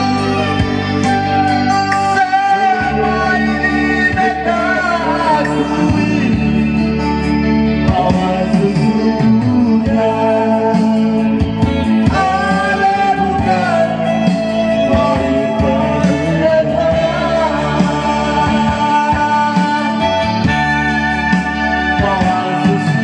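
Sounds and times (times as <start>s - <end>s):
electronic keyboard chords: 0.0s - 23.0s
man singing into a microphone: 0.0s - 23.0s.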